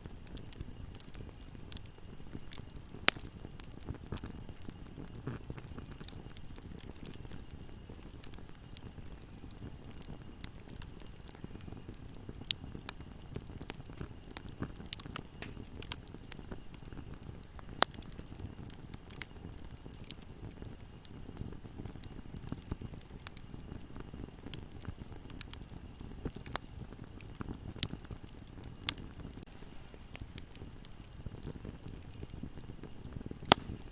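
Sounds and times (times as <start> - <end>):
fire pops and snaps: 0.0 - 33.9
low rumble of burning fire: 0.0 - 33.9.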